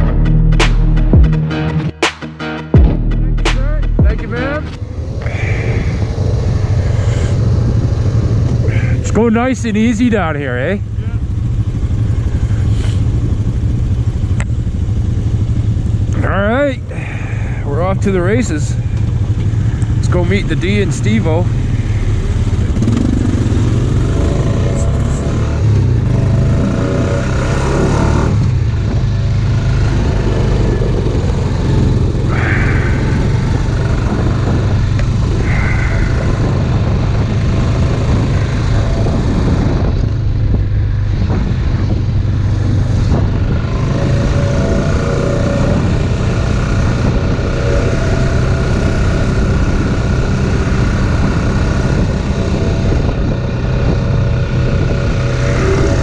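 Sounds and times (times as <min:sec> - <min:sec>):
off-road vehicle engine running: 0:00.0 - 0:01.7, 0:02.7 - 0:56.0.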